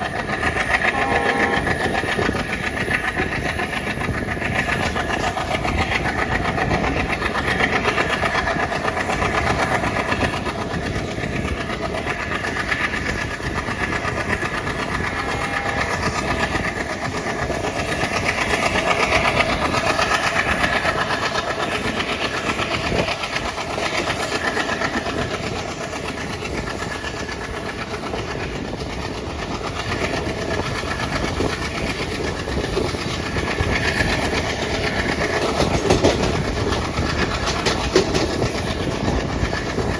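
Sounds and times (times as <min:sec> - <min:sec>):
diesel locomotive engine running: 0:00.0 - 0:39.9
train wheels clattering on rails: 0:00.0 - 0:39.9.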